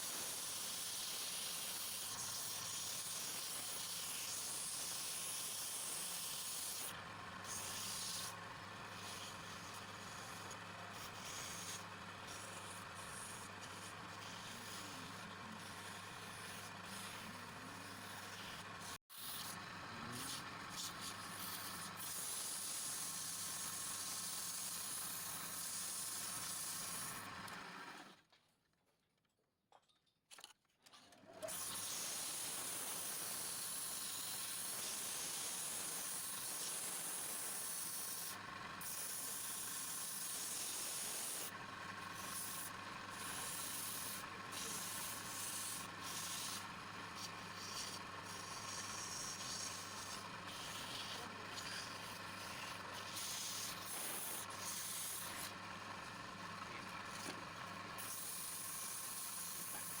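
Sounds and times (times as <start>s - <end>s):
sanding: 0.0s - 19.5s, 20.8s - 27.2s, 31.7s - 41.5s, 42.1s - 55.6s.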